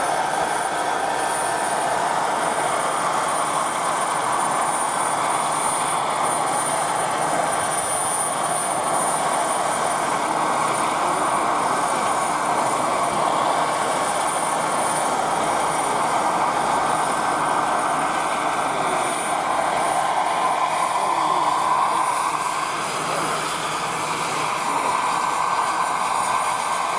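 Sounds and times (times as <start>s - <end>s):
model helicopter motor and rotor: 0.0s - 26.9s.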